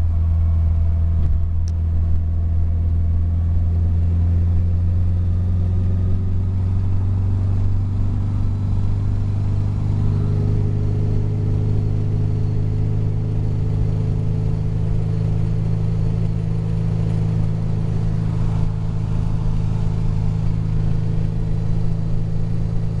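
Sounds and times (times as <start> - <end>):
car engine cruising: 0.0 - 23.0
road and wind noise hiss: 2.2 - 23.0.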